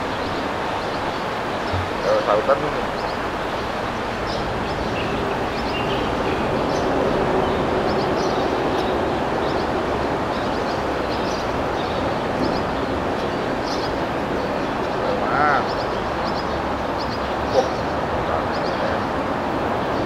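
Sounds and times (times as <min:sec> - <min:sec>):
rushing river noise: 0:00.0 - 0:20.0.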